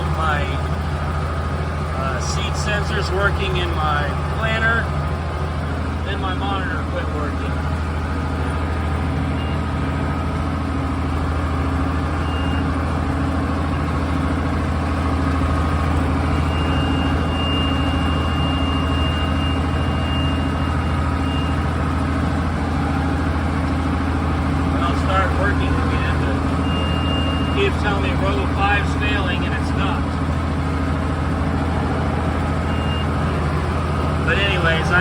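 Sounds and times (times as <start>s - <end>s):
tractor engine droning: 0.0s - 35.0s.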